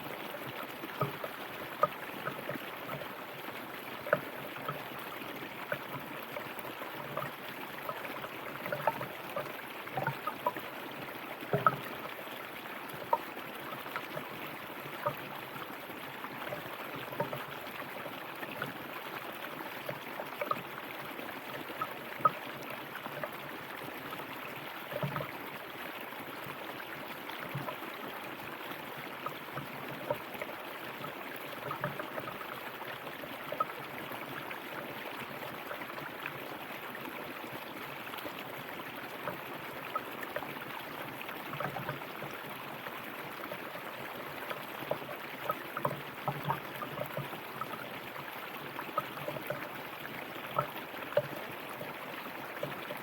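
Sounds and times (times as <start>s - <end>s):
river flowing over stones: 0.0s - 53.0s.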